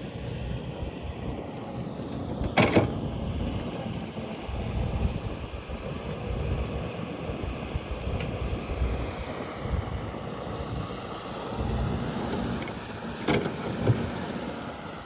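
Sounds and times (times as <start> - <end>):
wind rumble on microphone: 2.2 - 15.0.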